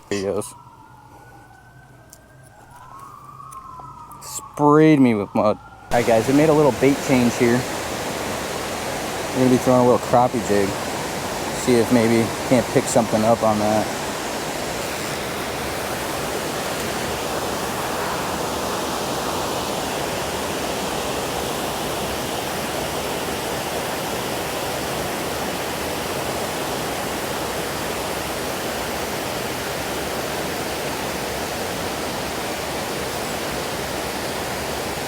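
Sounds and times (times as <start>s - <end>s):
creek water flowing: 5.9s - 35.0s.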